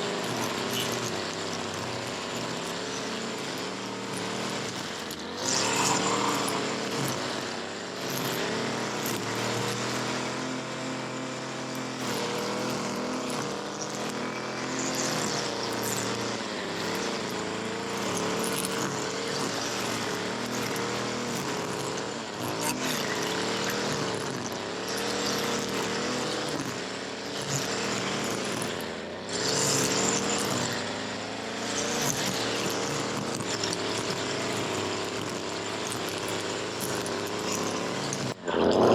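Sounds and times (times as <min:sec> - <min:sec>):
string trimmer engine running: 0:00.0 - 0:38.9.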